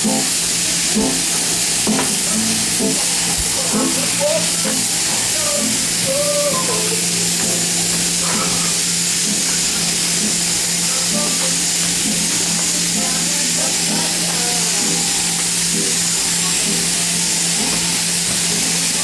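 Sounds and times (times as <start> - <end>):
shearing machine hum: 0.0 - 19.0.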